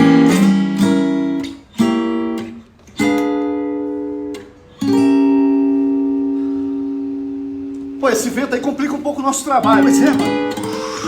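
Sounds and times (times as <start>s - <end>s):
acoustic guitar chords strummed: 0.0s - 11.0s.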